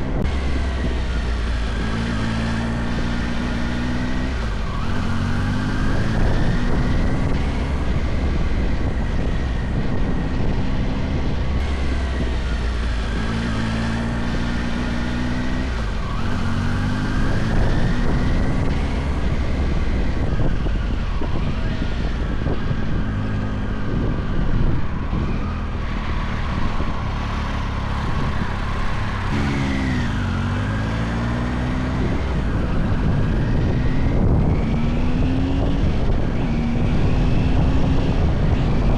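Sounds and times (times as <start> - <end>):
motorcycle engine shifting gears: 0.0 - 38.9
wind noise on microphone: 0.0 - 38.9.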